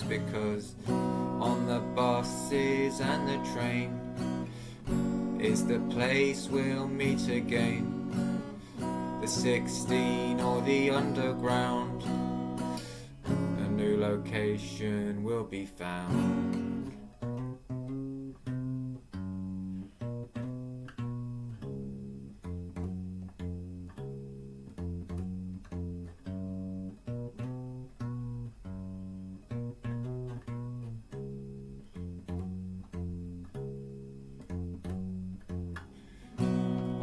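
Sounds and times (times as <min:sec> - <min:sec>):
guitar playing low notes: 0:00.0 - 0:37.0.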